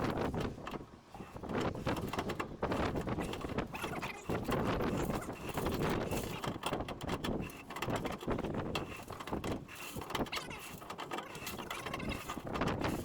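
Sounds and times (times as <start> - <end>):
wind noise: 0.0 - 13.0.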